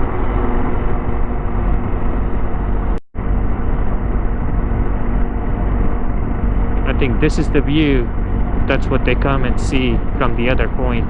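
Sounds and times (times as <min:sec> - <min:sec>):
heavy wind noise: 0:00.0 - 0:11.0
motorcycle engine cruising: 0:00.0 - 0:11.0.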